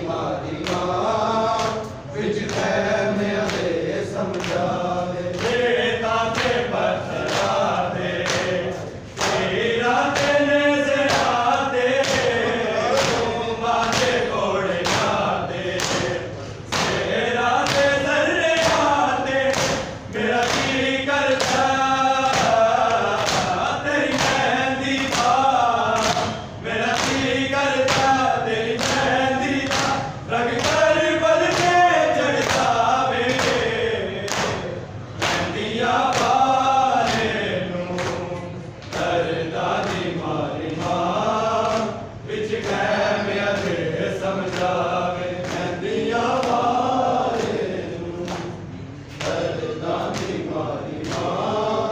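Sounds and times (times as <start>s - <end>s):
men chanting a lament: 0.0s - 51.9s.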